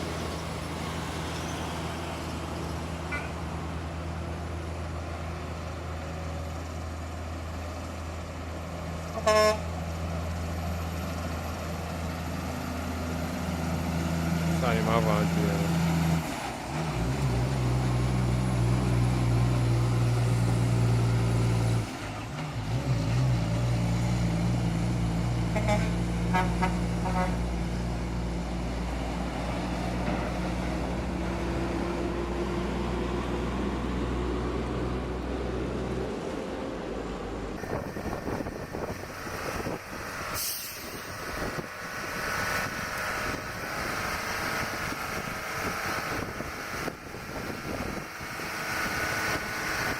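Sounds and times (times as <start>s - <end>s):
rough noisy vehicle: 0.0s - 49.9s
truck engines droning: 0.0s - 49.9s.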